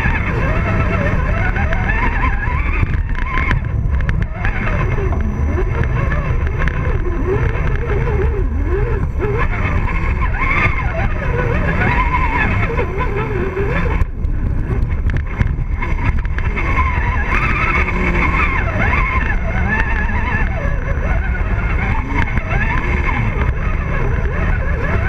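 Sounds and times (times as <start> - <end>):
electric motor and gearbox whining: 0.0 - 25.0
low rumble: 0.0 - 25.0.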